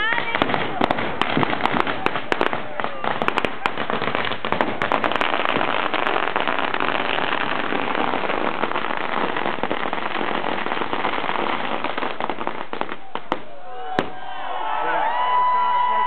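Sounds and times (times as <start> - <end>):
firecrackers crackling: 0.0 - 14.3.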